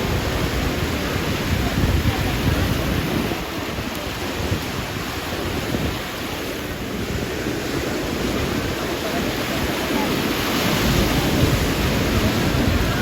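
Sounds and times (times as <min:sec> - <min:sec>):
sea waves washing onto beach: 0:00.0 - 0:13.0
wind buffeting microphone: 0:00.0 - 0:13.0.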